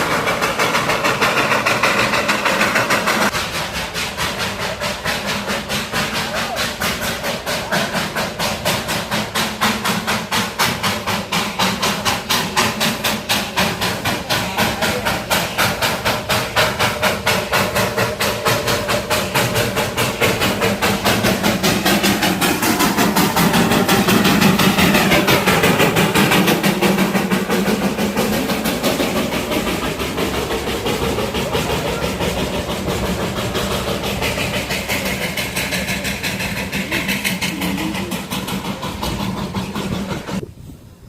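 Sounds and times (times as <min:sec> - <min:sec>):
train running rhythmic beat: 0:00.0 - 0:40.5.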